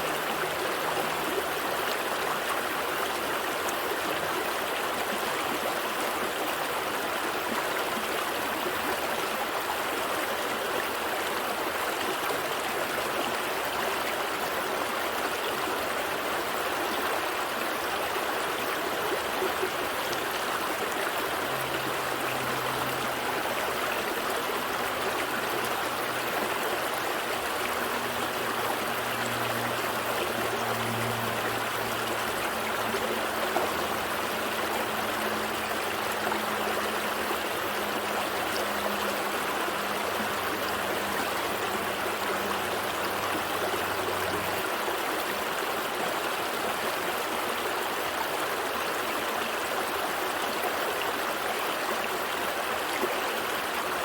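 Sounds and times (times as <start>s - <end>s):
stream flowing and babbling: 0.0s - 54.0s.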